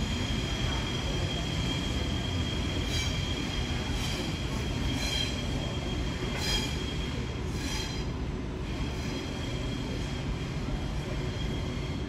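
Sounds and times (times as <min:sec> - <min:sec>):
train rumble: 0:00.0 - 0:12.0
train wheels squealing on rails: 0:00.0 - 0:12.0.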